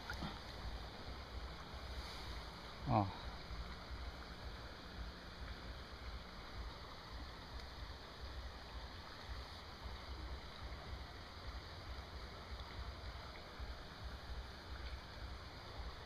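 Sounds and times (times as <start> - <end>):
shallow river running: 0.0 - 16.0.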